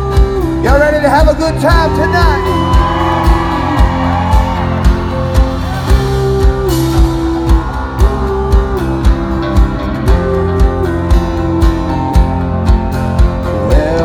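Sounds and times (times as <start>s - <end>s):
country band playing: 0.0s - 14.0s.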